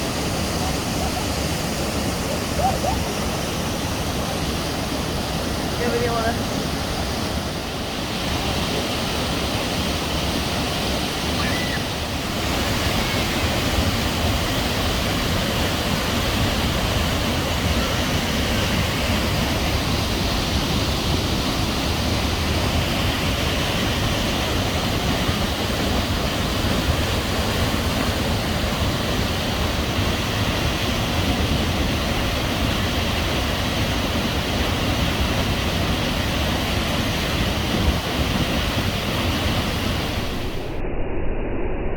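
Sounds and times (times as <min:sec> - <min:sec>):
waterfall rushing: 0:00.0 - 0:40.8.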